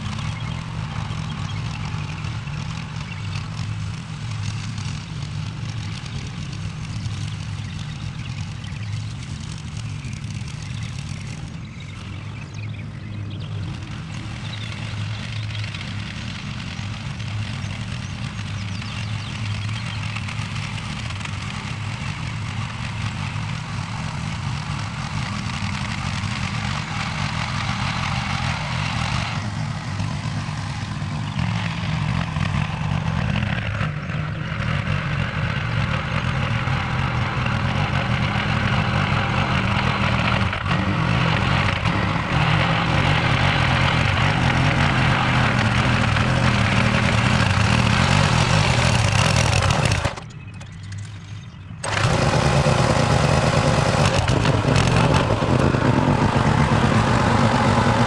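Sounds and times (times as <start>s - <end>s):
garden tiller engine running: 0.0s - 58.0s.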